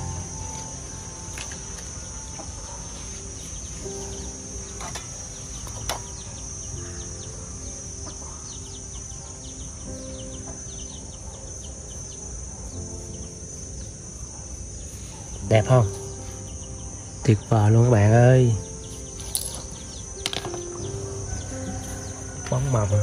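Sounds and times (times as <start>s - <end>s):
falling bird chirps: 0.0s - 23.0s
high-pitched insect drone: 0.0s - 23.0s.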